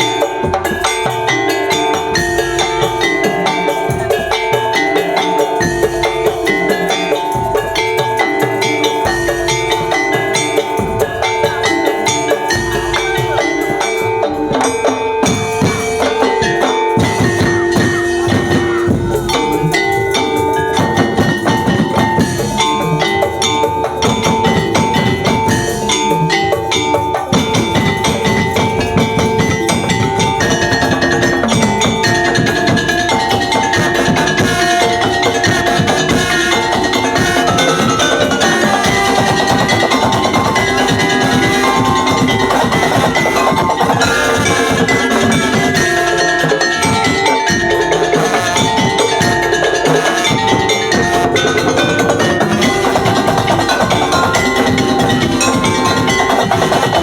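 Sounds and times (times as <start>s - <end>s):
drums and percussion beat: 0.0s - 57.0s
tuned mallet instruments ringing: 0.0s - 57.0s.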